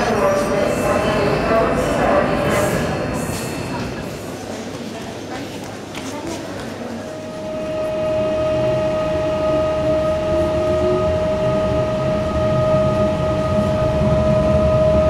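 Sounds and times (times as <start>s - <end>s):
electric train whine and rumble: 0.0s - 6.0s, 6.6s - 15.0s.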